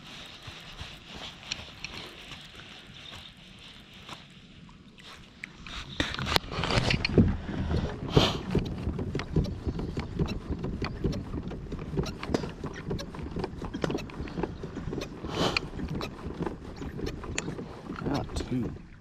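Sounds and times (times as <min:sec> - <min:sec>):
fishing gear knocking and rattling: 0:00.0 - 0:04.3, 0:05.6 - 0:18.9.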